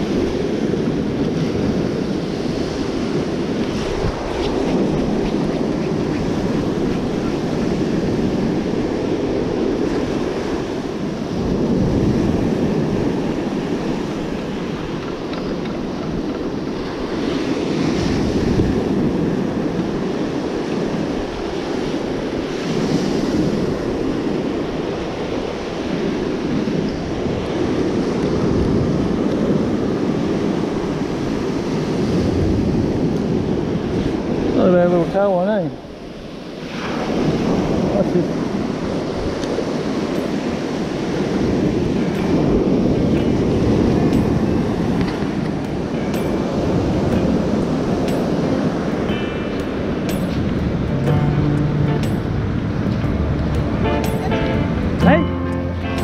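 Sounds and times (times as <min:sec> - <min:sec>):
wind buffeting microphone: 0:00.0 - 0:55.2
surf breaking on beach: 0:00.0 - 0:56.0.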